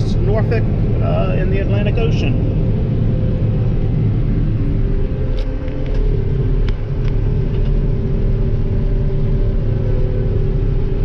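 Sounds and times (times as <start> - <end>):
combine harvester low rumble: 0.0 - 11.0.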